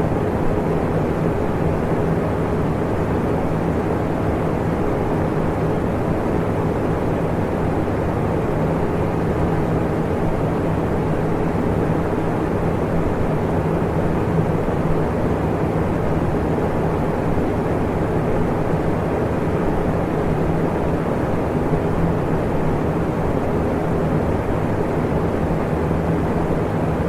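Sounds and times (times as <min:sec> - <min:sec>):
electric fan running: 0:00.0 - 0:27.0.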